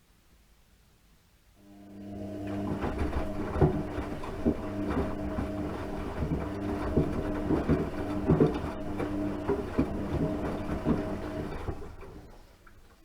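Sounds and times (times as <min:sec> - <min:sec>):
washing machine motor hum: 0:01.6 - 0:13.0.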